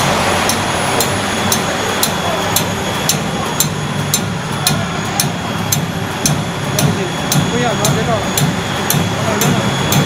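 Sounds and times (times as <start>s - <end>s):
machinery humming: 0.0s - 10.0s
cutter clicking: 0.5s - 10.0s.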